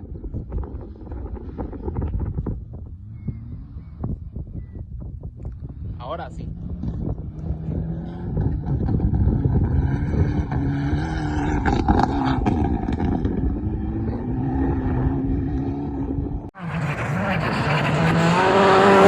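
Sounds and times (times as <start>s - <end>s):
rally car engine running: 0.1s - 19.0s.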